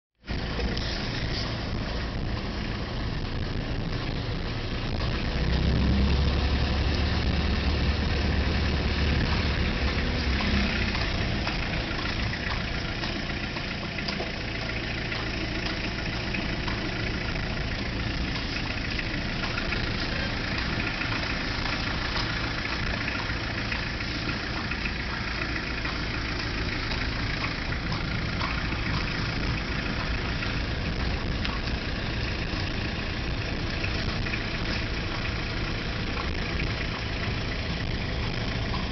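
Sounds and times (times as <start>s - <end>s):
car engine low hum: 0.2s - 38.9s.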